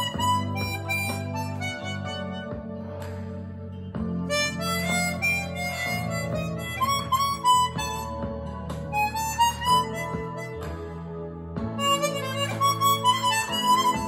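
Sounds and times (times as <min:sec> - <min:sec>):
chromatic harmonica melody: 0:00.0 - 0:03.0, 0:04.2 - 0:11.2, 0:11.8 - 0:14.0.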